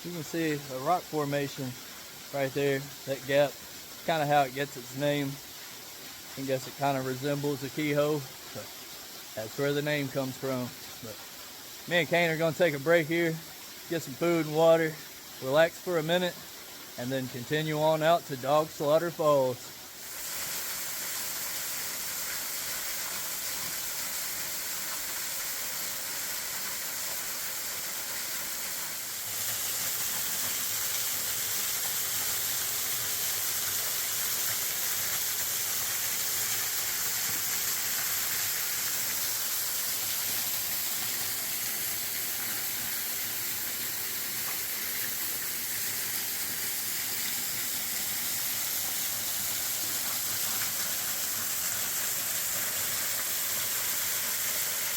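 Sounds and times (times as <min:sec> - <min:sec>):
waterfall pouring: 0:00.0 - 0:54.9.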